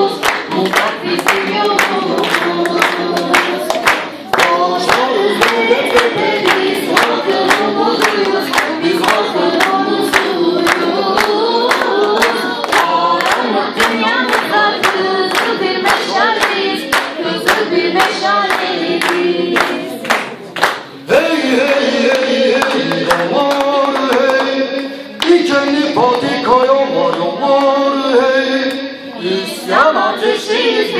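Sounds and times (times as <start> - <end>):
rhythmic hand-clapping: 0.0 - 28.8
group singing folk song: 0.0 - 30.9.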